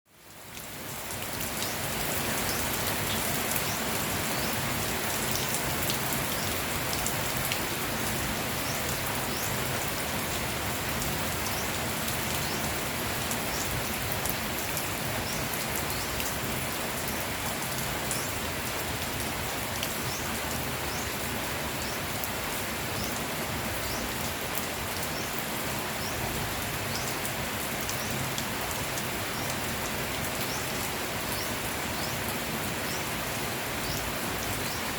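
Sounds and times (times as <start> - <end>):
rain pattering on leaves: 0.1 - 34.9.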